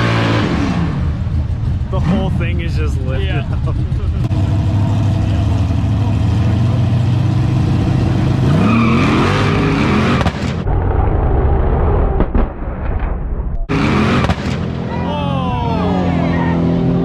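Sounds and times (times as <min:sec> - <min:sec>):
car engines accelerating hard: 0:00.0 - 0:12.2, 0:13.7 - 0:17.0.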